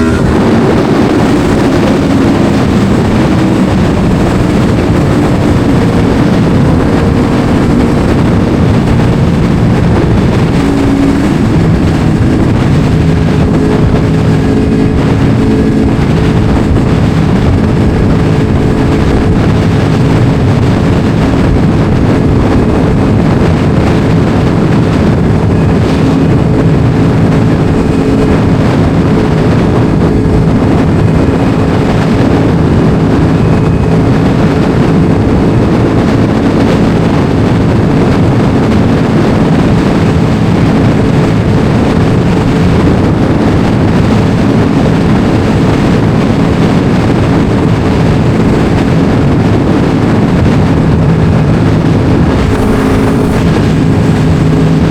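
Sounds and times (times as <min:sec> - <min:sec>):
motorcycle engine cruising: 0:00.0 - 0:54.9
wind buffeting microphone: 0:00.0 - 0:54.9.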